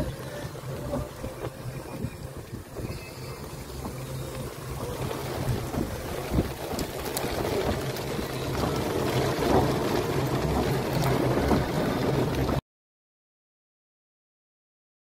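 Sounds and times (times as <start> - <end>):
wind on microphone: 0.0 - 12.6.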